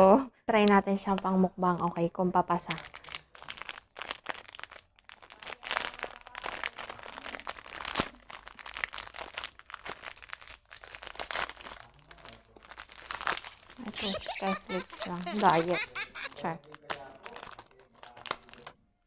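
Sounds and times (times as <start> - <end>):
plastic wrapper crinkling: 2.6 - 18.8.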